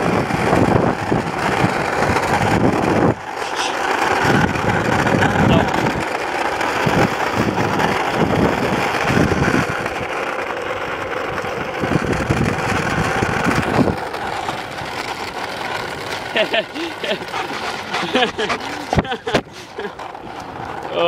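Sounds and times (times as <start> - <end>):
wind buffeting microphone: 0.0 - 10.2, 11.2 - 20.9.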